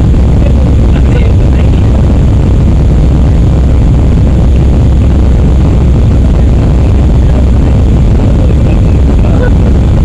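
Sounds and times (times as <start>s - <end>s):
jet engine rumble in cabin: 0.0s - 10.0s.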